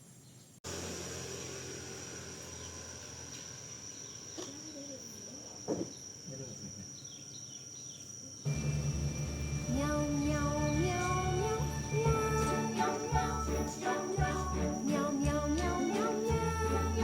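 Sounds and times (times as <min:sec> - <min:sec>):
high-pitched insect buzz: 0:01.5 - 0:17.0.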